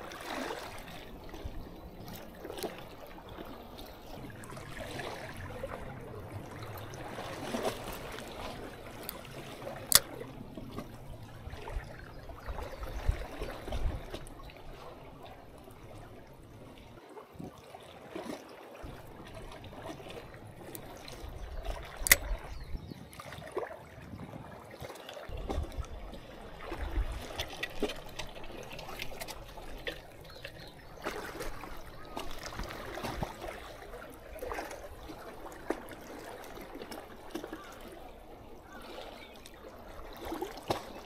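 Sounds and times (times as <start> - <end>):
seawater lapping on concrete blocks: 0.0 - 41.0.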